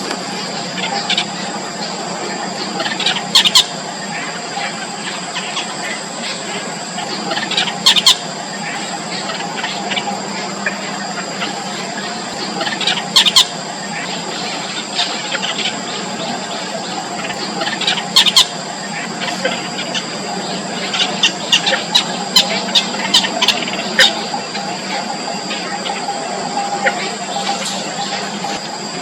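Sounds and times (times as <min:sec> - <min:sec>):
nestlings peeping: 0:00.0 - 0:29.0
steady high tones: 0:00.0 - 0:29.0.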